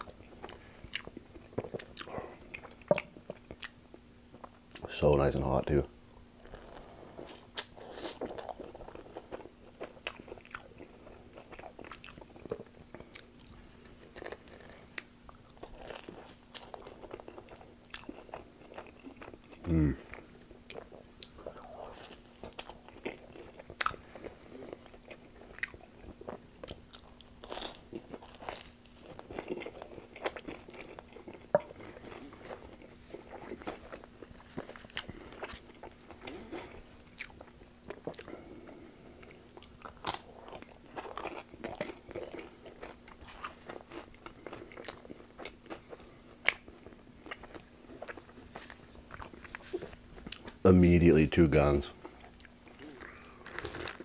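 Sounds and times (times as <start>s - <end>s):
person chewing pizza: 0.0s - 5.7s, 6.4s - 50.6s, 51.3s - 54.0s.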